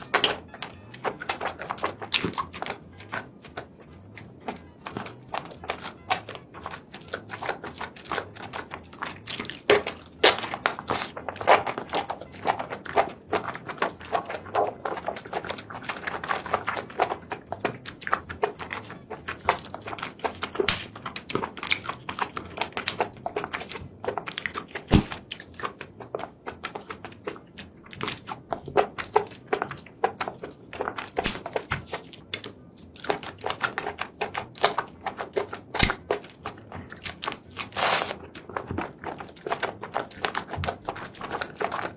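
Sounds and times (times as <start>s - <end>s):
person chewing and biting: 0.0s - 41.9s
seafood clicking and crackling: 0.0s - 41.9s.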